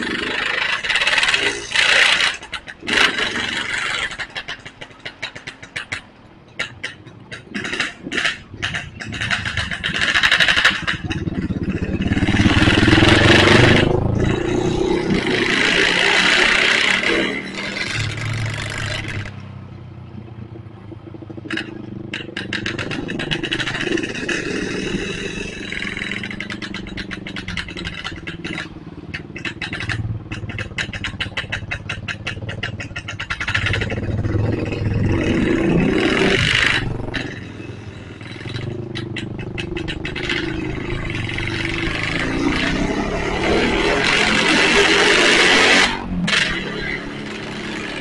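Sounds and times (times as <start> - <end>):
engine running with pulsing beat: 0.0 - 48.0.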